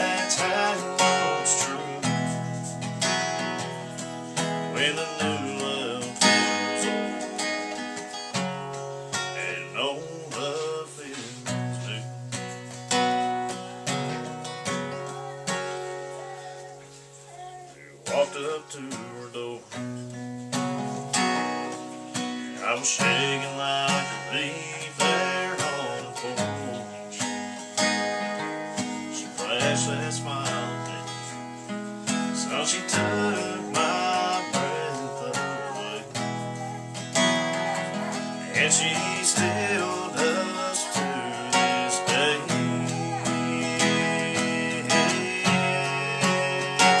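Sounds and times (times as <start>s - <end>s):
country song with acoustic guitar: 0.0s - 47.0s.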